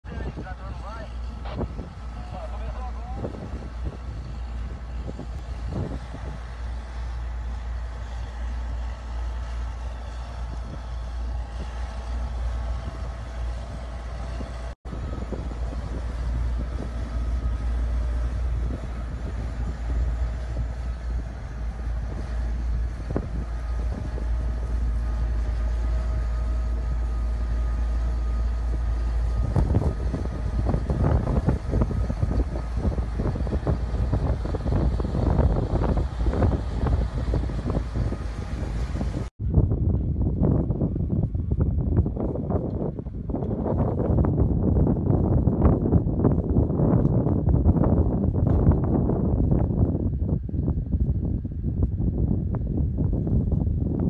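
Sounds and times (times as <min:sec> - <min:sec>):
tractor diesel engine rumble: 0:00.0 - 0:54.0.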